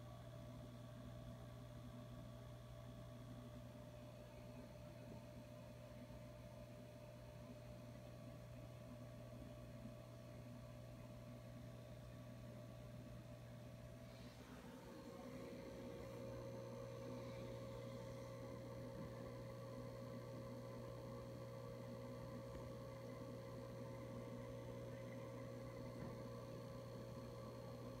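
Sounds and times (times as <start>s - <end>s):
aquarium pump hum: 0.0s - 28.0s.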